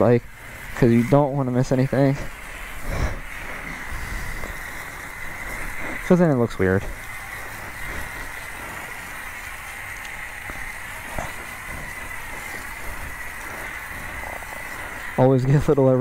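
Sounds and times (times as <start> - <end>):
constant high whine: 0.0 - 16.0
foam spraying hiss: 0.0 - 16.0.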